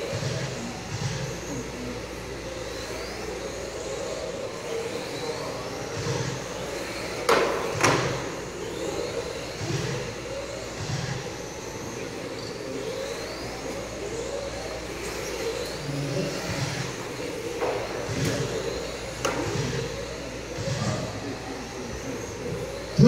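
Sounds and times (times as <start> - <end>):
rc car motors whining: 0.0 - 23.0.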